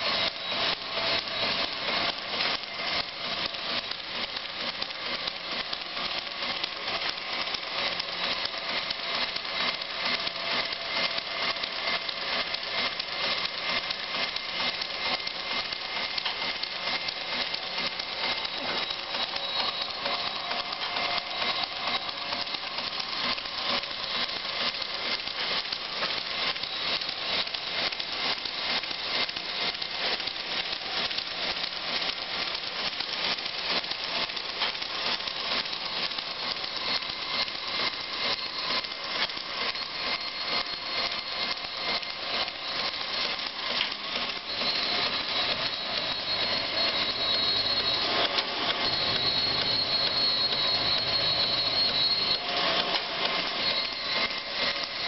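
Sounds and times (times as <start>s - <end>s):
fast rattle of ticks: 0.0s - 55.0s
surface grinder whining: 0.0s - 55.0s.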